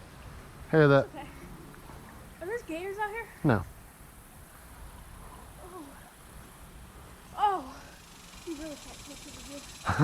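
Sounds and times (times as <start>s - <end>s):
outdoor background hum: 0.0s - 10.0s.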